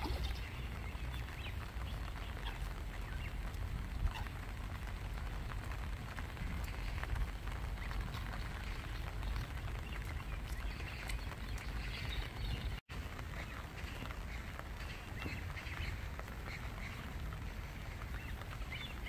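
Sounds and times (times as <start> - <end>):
rain pattering on water: 0.0 - 19.0.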